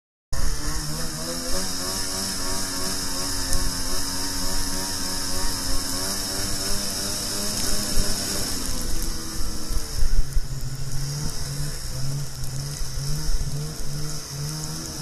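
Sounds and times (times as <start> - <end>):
high hiss: 0.4 - 15.0
snowmobile engine running: 0.4 - 15.0.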